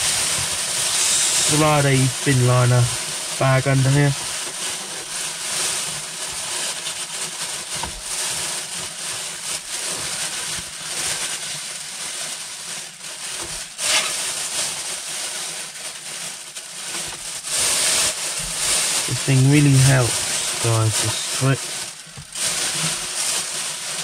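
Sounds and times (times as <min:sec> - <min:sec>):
plastic bag crinkling and rustling: 0:00.0 - 0:24.0.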